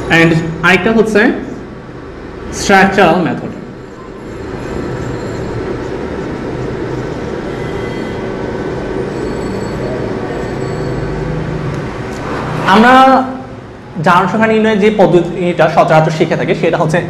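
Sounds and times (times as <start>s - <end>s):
mechanical rumbling: 0.0s - 13.9s.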